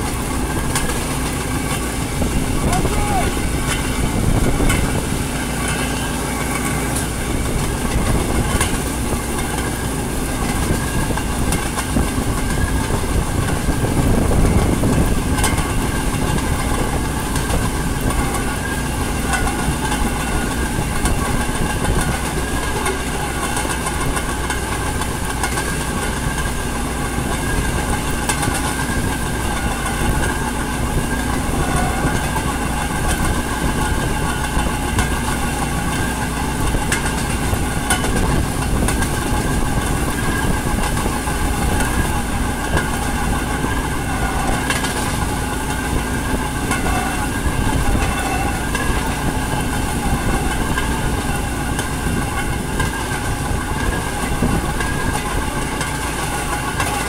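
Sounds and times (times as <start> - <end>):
rail vehicle running: 0.0 - 57.0
wheels clicking over rail joints: 0.0 - 57.0.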